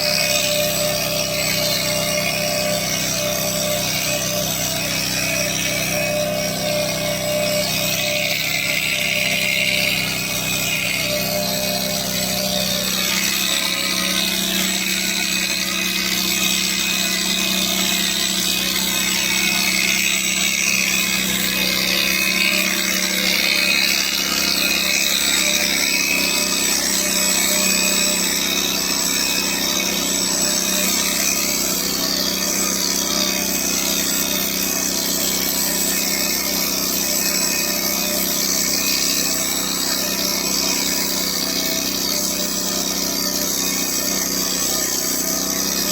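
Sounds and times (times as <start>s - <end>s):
small electric motor buzzing: 0.0s - 45.9s.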